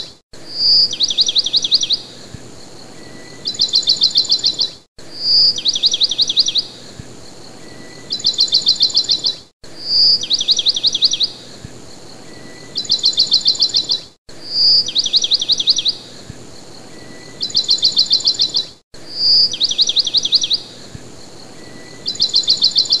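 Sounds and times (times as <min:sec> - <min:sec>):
birdsong trills and chirps: 0:00.0 - 0:23.0.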